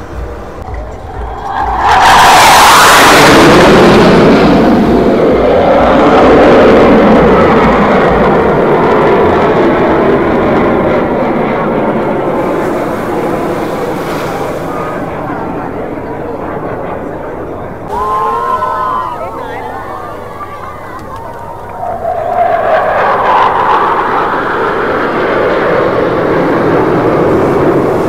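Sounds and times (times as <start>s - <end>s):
jet flying past overhead: 1.0s - 28.0s.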